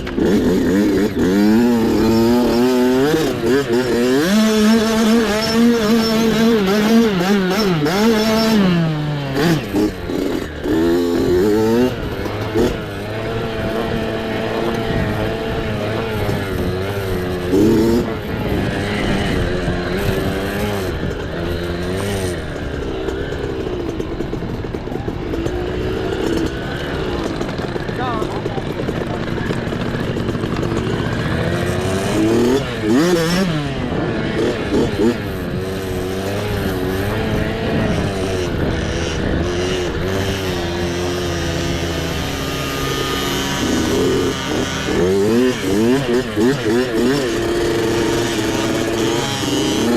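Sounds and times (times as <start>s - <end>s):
mini bike engine revving: 0.0s - 49.9s.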